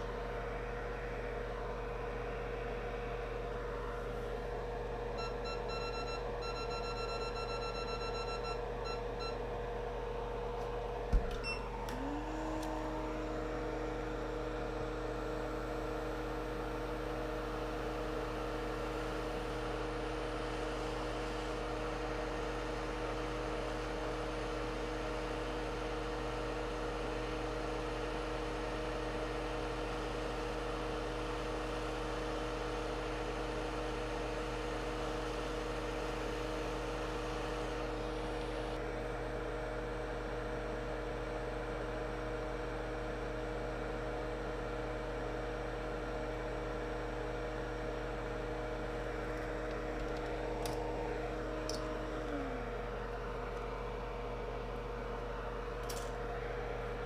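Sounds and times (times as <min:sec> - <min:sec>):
motor hum with held tones: 0:00.0 - 0:57.0.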